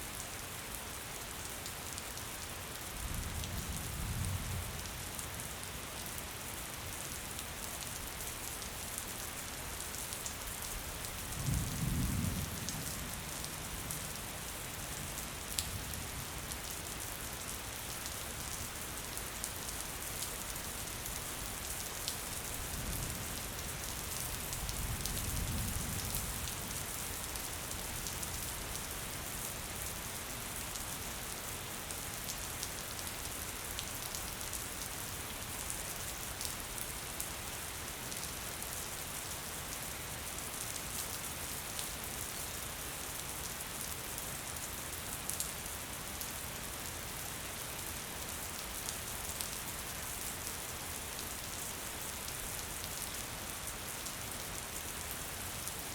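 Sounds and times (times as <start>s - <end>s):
gentle rain falling: 0.0s - 55.9s.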